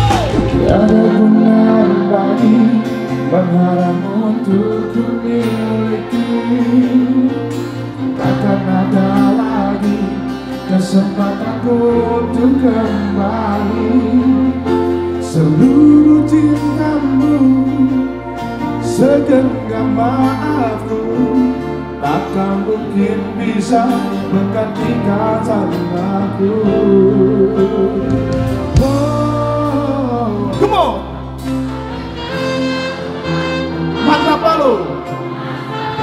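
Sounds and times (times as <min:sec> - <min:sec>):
live pop band music: 0:00.0 - 0:36.0
person singing: 0:00.0 - 0:36.0.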